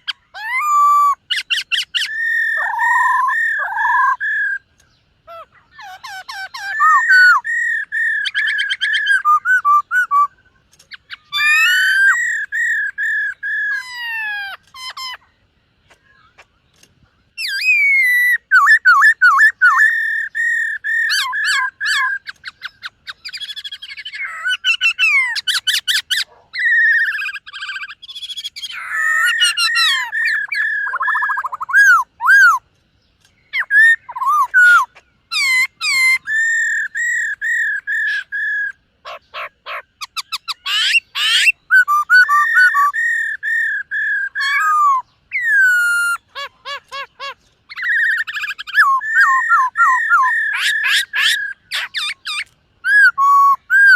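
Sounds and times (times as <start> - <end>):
bird singing whistled phrases: 0.0 - 15.2, 17.4 - 32.6, 33.3 - 53.9.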